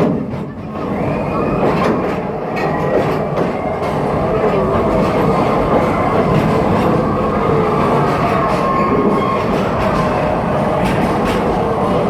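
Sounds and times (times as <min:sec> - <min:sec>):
train cars and wheels rumbling: 0:00.0 - 0:12.0.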